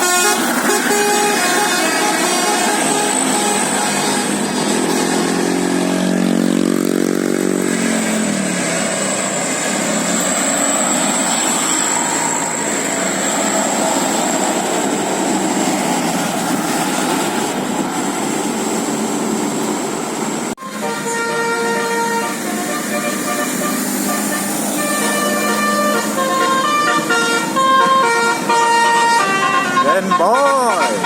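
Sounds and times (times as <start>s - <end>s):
bus engine passing: 0.0s - 31.0s
traffic and road noise: 0.0s - 31.0s.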